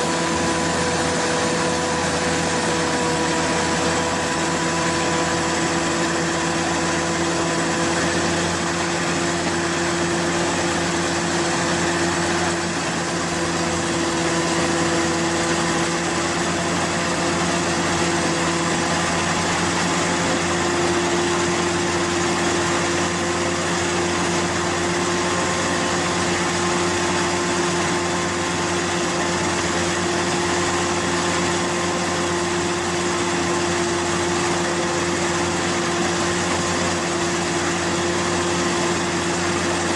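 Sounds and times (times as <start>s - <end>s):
threshing machine running: 0.0s - 39.9s.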